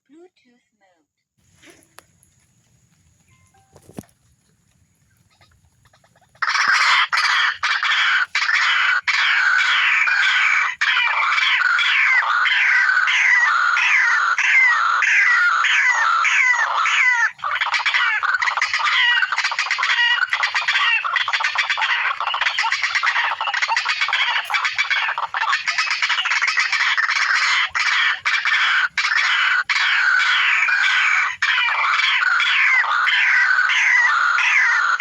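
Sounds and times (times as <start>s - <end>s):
bird calls through speaker: 6.4s - 35.0s.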